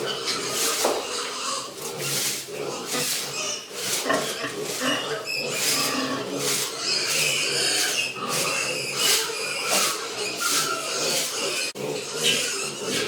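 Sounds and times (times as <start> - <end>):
pigs grunting and squealing: 0.0 - 13.0.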